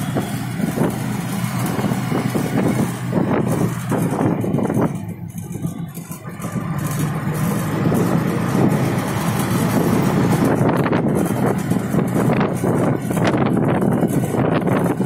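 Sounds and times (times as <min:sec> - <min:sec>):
tyre and wind noise: 0:00.0 - 0:15.0
vehicle engine running: 0:00.0 - 0:15.0.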